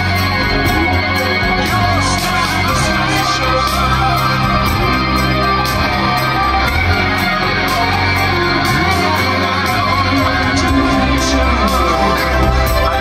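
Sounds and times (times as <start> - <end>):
electric guitar: 0.0 - 13.0
rock band playing live: 0.0 - 13.0.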